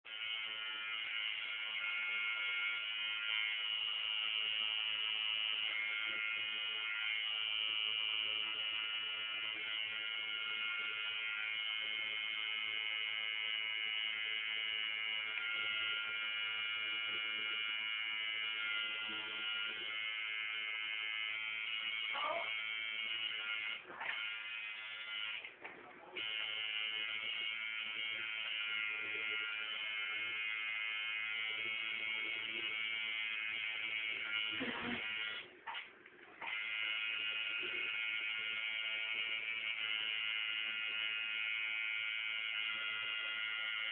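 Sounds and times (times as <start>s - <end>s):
tattoo machine buzzing: 0.1s - 43.9s.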